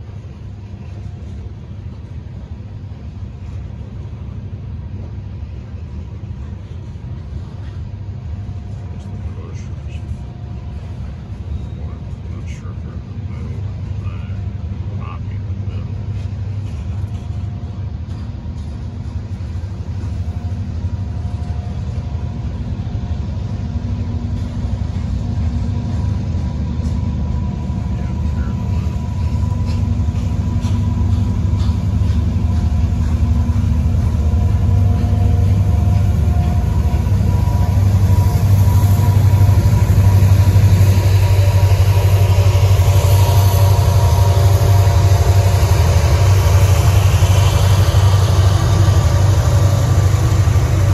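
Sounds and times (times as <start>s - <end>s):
diesel locomotive: 0.0s - 50.9s
freight train rumbling past: 0.0s - 50.9s.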